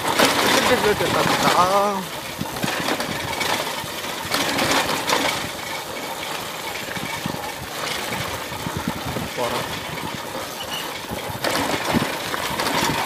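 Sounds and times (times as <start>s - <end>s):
bike rattling over stones: 0.0s - 13.0s
moped engine running: 0.0s - 13.0s.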